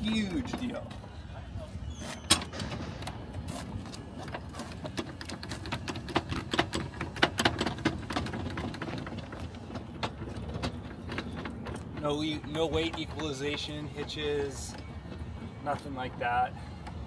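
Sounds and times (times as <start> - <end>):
trailer jack metal clicks and clanks: 2.0 - 17.0.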